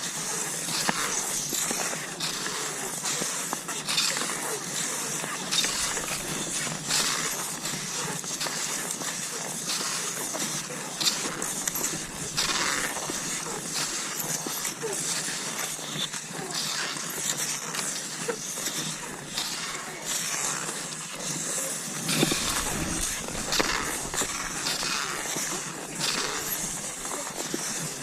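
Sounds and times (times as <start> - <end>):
skis swishing over snow: 0.0 - 28.0.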